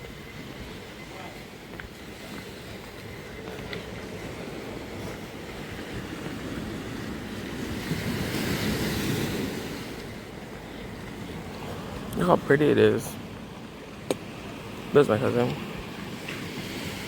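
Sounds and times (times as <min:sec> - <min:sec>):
sea surf washing on beach: 0:00.0 - 0:17.0.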